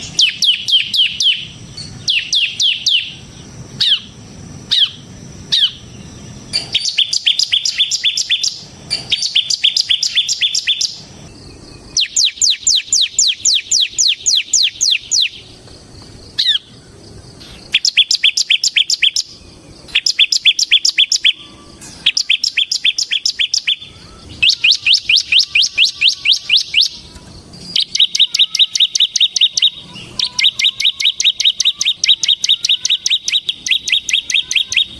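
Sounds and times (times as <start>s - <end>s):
sharp downslurred bird notes: 0.0s - 11.1s, 17.4s - 34.9s
bird singing rattling song: 0.0s - 34.9s.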